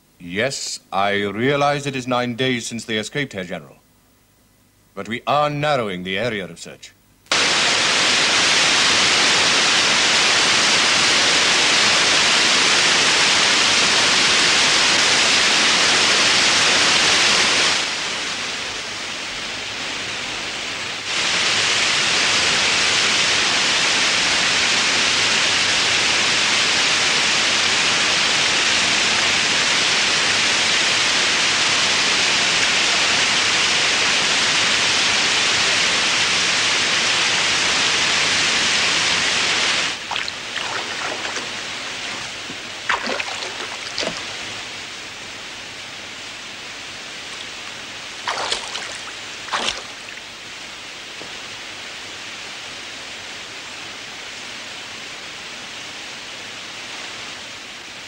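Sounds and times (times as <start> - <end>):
static noise hiss: 0.0 - 58.0.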